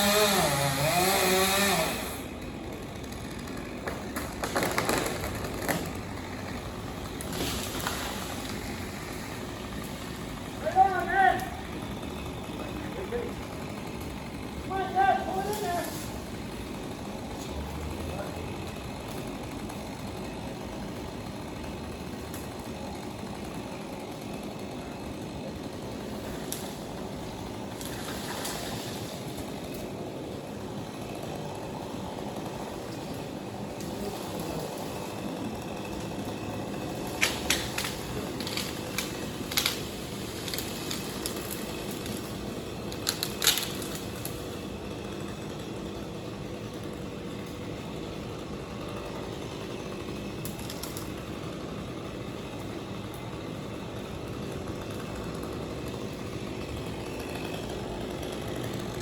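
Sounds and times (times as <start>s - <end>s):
engine idling: 2.2s - 59.0s.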